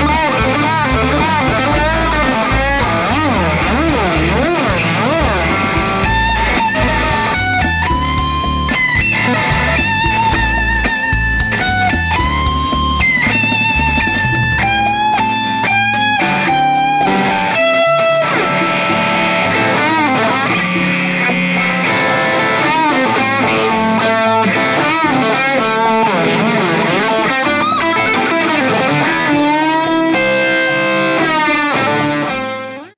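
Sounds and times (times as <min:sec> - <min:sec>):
distorted electric guitar lead: 0:00.0 - 0:32.9
drum beat backing track: 0:00.0 - 0:32.9.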